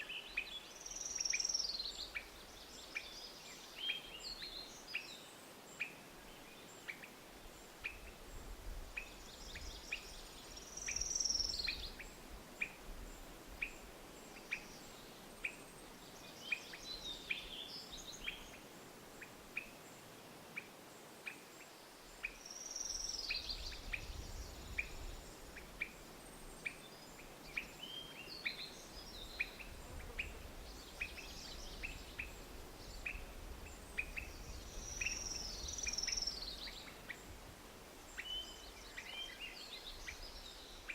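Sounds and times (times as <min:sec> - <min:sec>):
bird song phrases: 0:00.0 - 0:08.2, 0:08.9 - 0:18.7, 0:19.6 - 0:37.3, 0:38.0 - 0:40.9.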